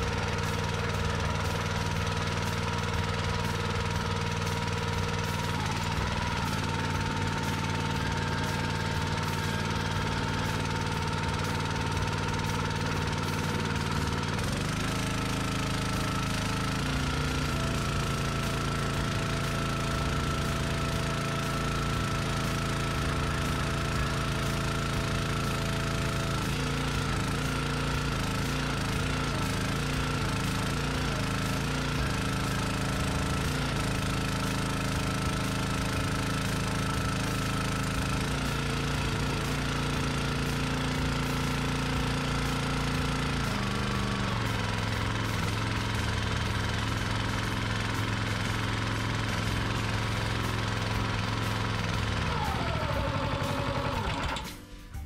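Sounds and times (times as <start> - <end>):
log splitter engine running: 0.0 - 55.0.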